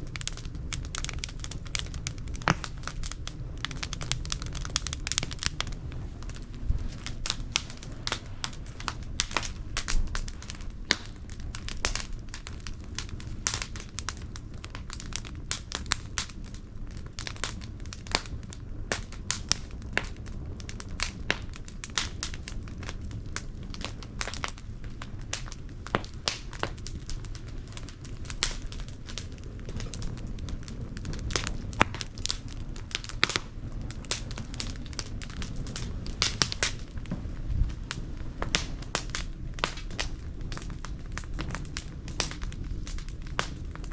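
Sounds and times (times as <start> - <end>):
fire crackling and popping: 0.0 - 43.9
low fire rumble: 0.0 - 43.9.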